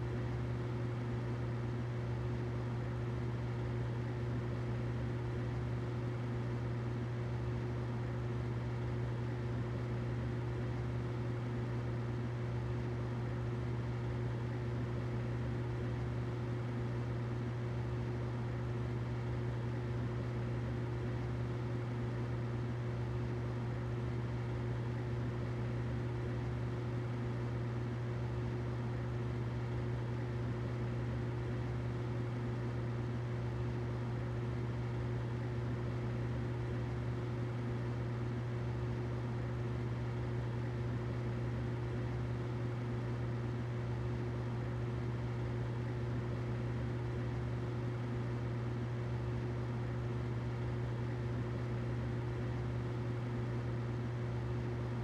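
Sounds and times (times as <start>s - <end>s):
humidifier running: 0.0s - 55.0s.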